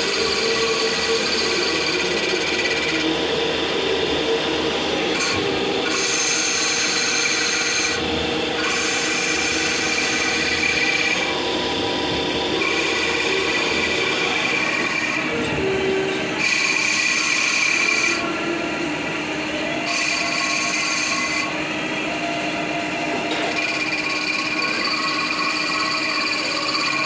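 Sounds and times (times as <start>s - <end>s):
high-pitched cutting whine: 0.0s - 27.0s
lathe machining hiss: 0.0s - 27.0s.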